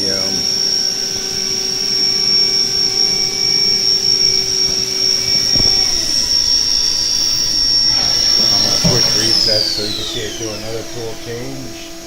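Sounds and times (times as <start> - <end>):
low machine hum: 0.0 - 12.0
spindle high-pitched whine: 0.0 - 12.0.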